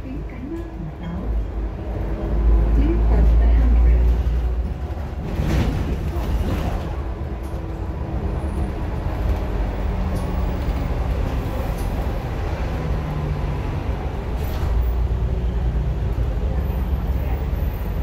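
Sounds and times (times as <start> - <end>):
bus engine running: 0.0 - 18.0.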